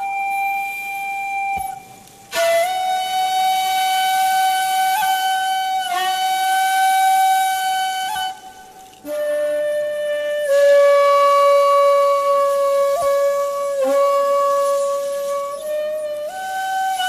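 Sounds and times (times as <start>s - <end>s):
shakuhachi long held notes: 0.0s - 17.0s.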